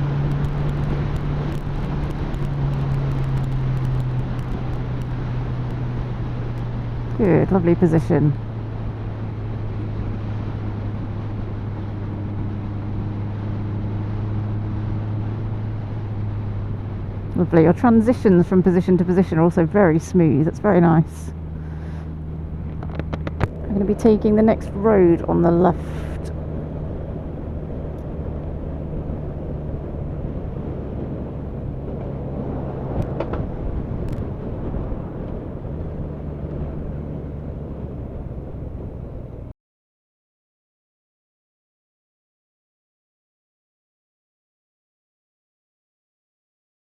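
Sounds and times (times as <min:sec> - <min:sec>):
motorcycle engine cruising: 0:00.0 - 0:39.5
wind noise: 0:00.0 - 0:39.5
road noise: 0:00.0 - 0:39.6.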